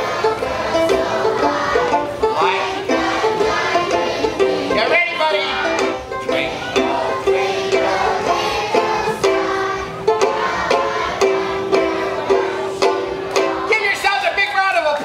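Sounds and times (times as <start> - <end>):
banjo ukulele strumming: 0.0 - 14.3.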